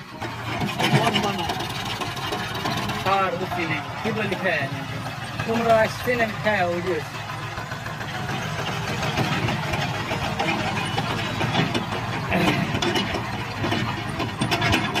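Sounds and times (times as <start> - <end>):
loud rattles: 0.0 - 15.0
tractor diesel engine running: 0.0 - 15.0.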